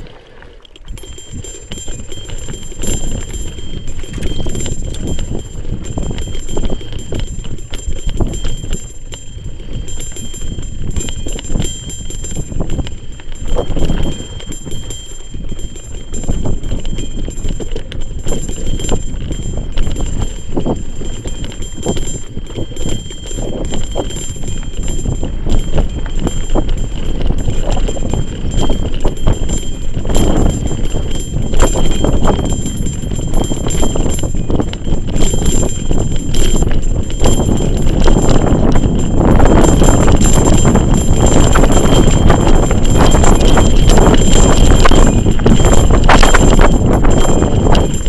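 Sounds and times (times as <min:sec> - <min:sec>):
mountain bike rattling and knocking: 0:00.0 - 0:48.0
wind rumble on microphone: 0:00.8 - 0:48.0.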